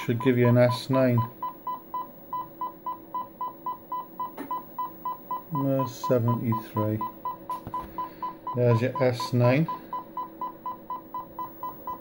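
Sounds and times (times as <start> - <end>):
pulsing test tone beeps: 0.0 - 12.0.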